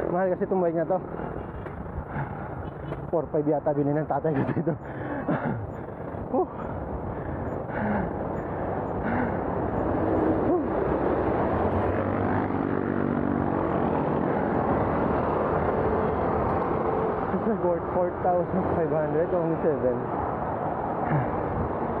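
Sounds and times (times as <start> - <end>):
motor vehicle engine hum: 0.0 - 19.2
road noise: 0.0 - 22.0.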